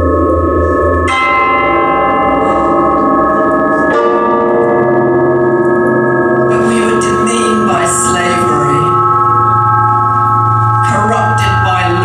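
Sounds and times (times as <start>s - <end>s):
electronic bell-like tones: 0.0s - 12.0s.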